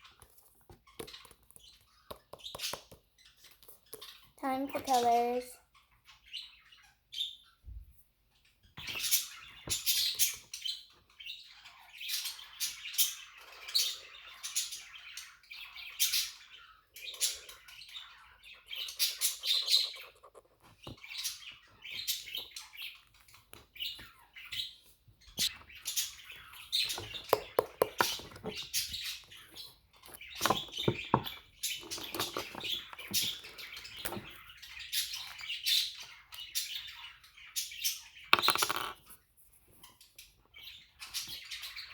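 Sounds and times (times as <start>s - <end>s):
budgies chirping and chattering: 0.8s - 7.7s, 8.3s - 38.3s, 39.8s - 41.9s.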